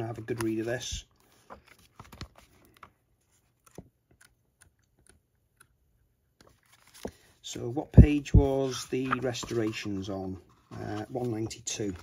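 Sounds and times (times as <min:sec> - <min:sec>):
book pages turning: 0:00.0 - 0:05.7, 0:06.4 - 0:12.0.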